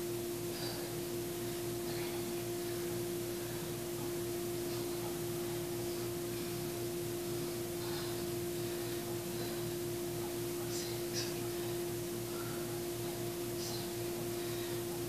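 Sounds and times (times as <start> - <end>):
constant hiss: 0.0 - 15.0
steady hum: 0.0 - 15.0.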